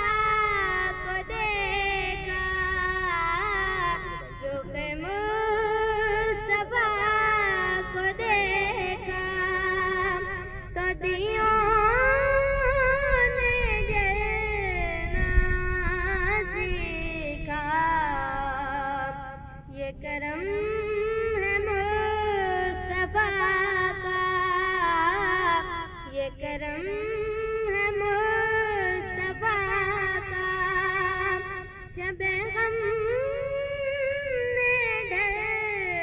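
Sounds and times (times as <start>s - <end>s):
girl singing into a microphone: 0.0s - 36.0s.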